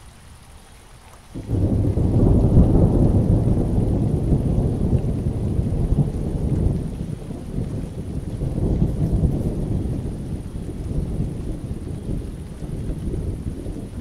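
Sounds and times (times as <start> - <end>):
rain falling: 0.0 - 14.0
thunder rumbling: 1.4 - 14.0.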